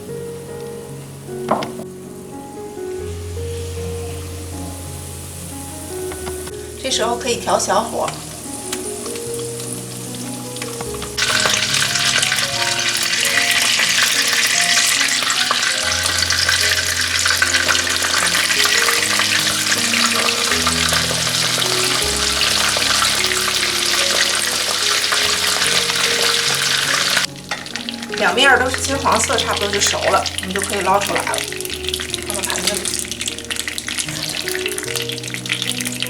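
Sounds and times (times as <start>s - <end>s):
chicken sizzling in hot oil: 0.0s - 36.0s
soft background music: 0.0s - 36.0s.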